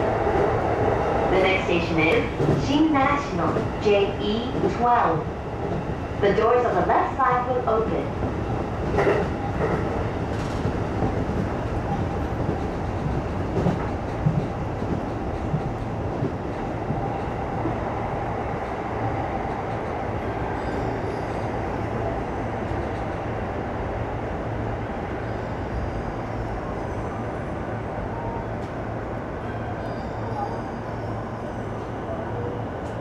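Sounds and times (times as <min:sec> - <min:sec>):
electric train rumble and hum: 0:00.0 - 0:33.0.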